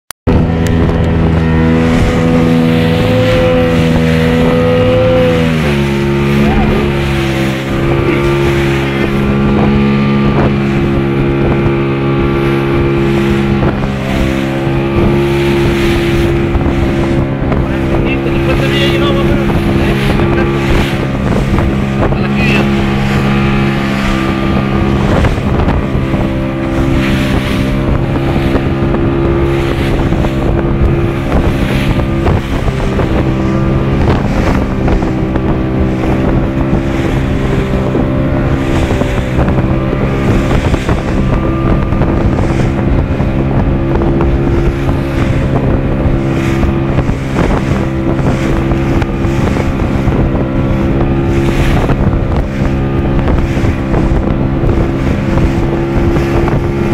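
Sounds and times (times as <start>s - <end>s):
hull slapping waves: 0.3s - 56.9s
outboard motor running: 0.3s - 56.9s
wind buffeting microphone: 0.3s - 56.9s.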